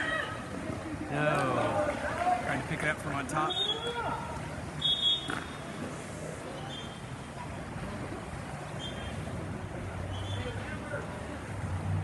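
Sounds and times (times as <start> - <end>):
pool and crowd noise: 0.0 - 12.0.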